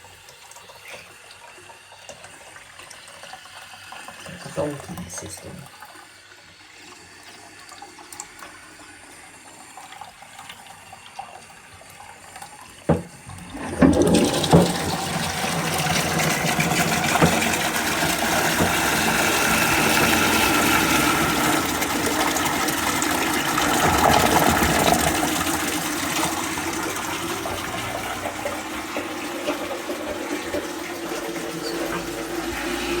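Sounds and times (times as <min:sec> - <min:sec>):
faint running water: 0:00.0 - 0:33.0
toilet flush water rushing: 0:00.0 - 0:33.0.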